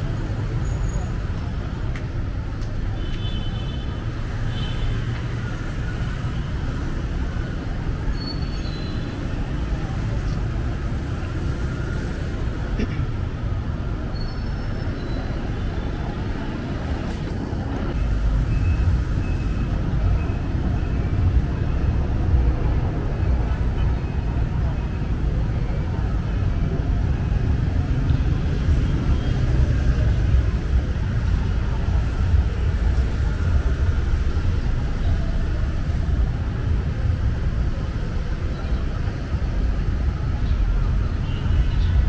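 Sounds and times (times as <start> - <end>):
traffic on wet road: 0.0 - 42.0.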